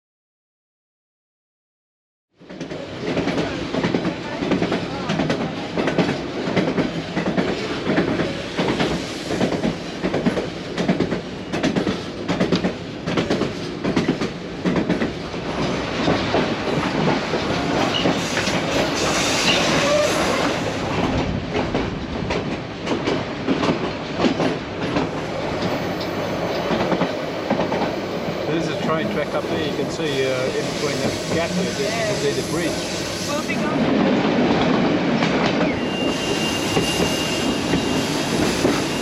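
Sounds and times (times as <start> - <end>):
train wheels clicking over rail joints: 2.4 - 20.0, 20.8 - 39.0
railway car rattling: 2.4 - 39.0.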